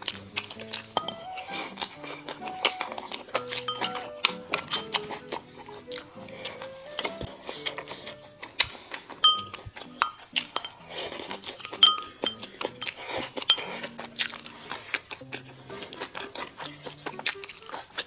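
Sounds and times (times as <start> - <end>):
soft background music: 0.0 - 18.0
utensils clinking against a dish: 0.0 - 18.0.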